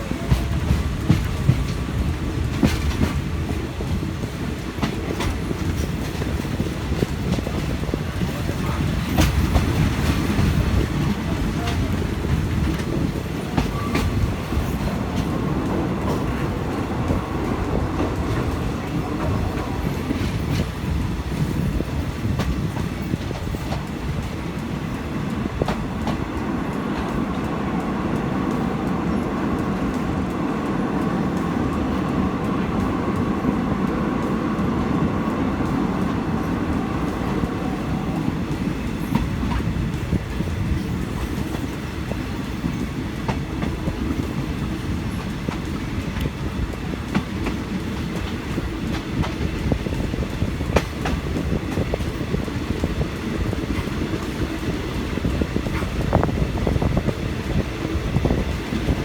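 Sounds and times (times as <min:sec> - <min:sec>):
train rumble: 0:00.0 - 0:59.0
wheels clacking over rails: 0:00.0 - 0:59.0.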